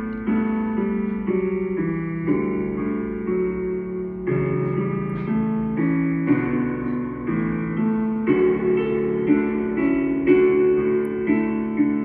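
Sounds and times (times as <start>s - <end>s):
instrumental music chords: 0.0s - 12.0s.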